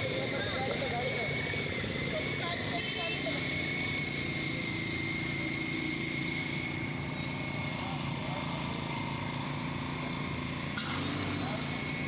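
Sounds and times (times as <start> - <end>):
motor hum with high whine: 0.0 - 12.0.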